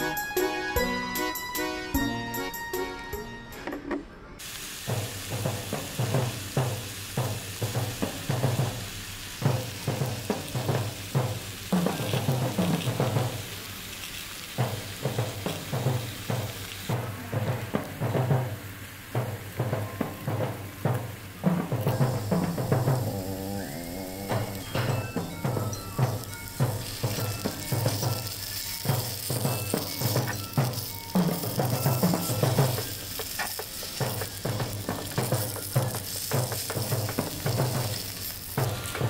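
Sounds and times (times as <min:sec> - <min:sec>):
steak sizzling and crackling: 0:04.4 - 0:39.0.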